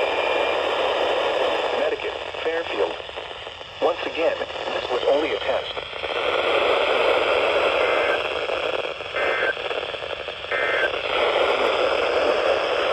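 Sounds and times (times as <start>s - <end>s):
radio static hiss: 0.0s - 12.9s.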